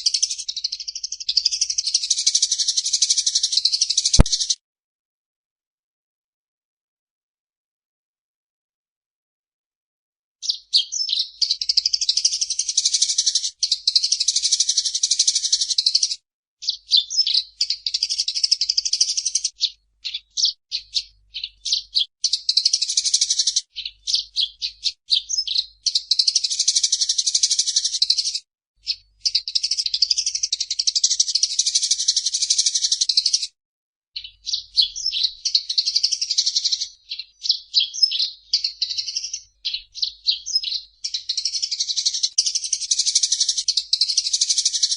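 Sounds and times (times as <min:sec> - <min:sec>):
sparrow chirping: 0:00.0 - 0:04.6, 0:10.4 - 0:33.6, 0:34.2 - 0:44.9.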